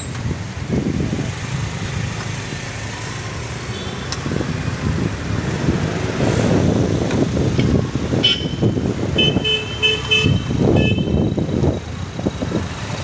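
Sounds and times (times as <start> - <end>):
scooters and cars passing: 0.0 - 13.0.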